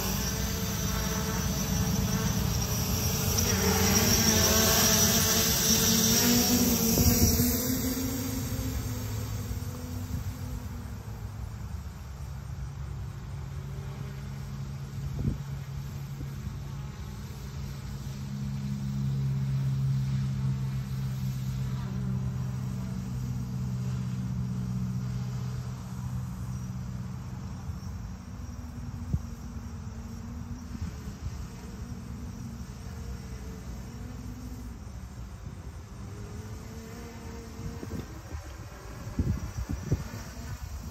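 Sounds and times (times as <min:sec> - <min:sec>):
drone propellers buzzing: 0:00.0 - 0:40.9.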